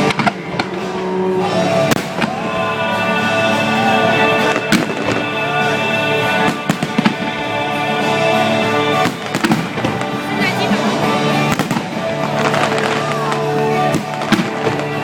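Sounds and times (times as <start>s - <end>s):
fireworks bangs: 0.0s - 15.0s
fireworks crackles: 0.0s - 15.0s
music playing: 0.0s - 15.0s.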